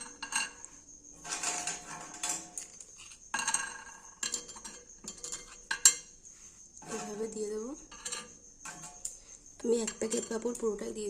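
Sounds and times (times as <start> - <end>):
dry wafers clattering and rustling: 0.0 - 10.9.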